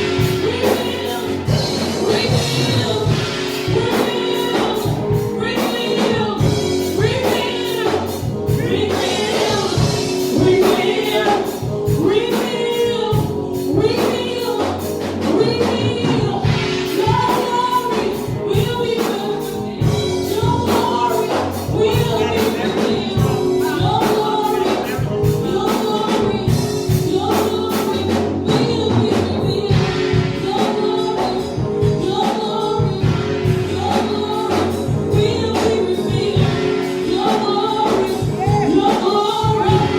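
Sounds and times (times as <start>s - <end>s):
drums and percussion beat: 0.0s - 39.9s
gospel choir singing: 0.0s - 39.9s.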